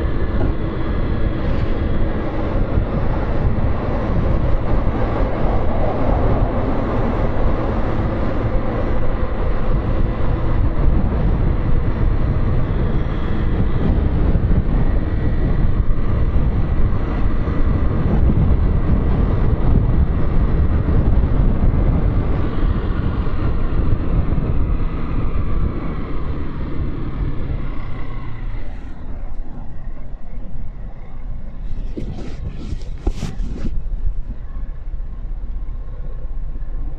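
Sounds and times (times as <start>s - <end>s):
wind noise on microphone: 0.0s - 36.9s.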